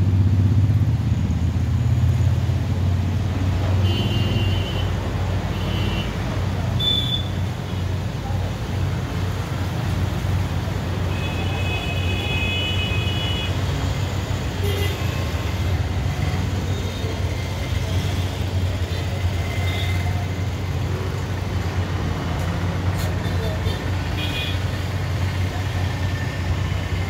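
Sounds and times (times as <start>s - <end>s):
low rumble of passing vehicles: 0.0s - 27.0s.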